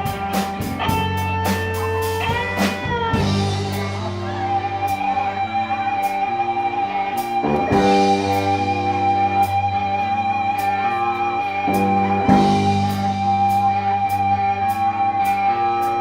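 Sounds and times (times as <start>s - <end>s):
lead guitar bending notes: 0.0s - 16.0s
live rock band playing: 0.0s - 16.0s.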